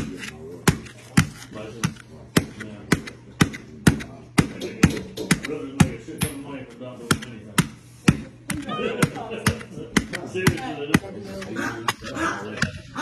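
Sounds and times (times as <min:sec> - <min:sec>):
potato knocking on plastic board: 0:00.0 - 0:06.4, 0:07.0 - 0:12.8.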